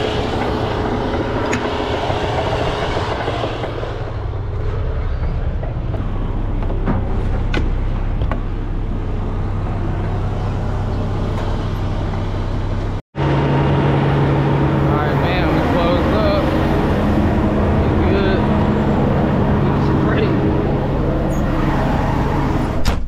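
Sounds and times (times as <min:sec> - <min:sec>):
diesel engine humming: 0:00.0 - 0:22.9.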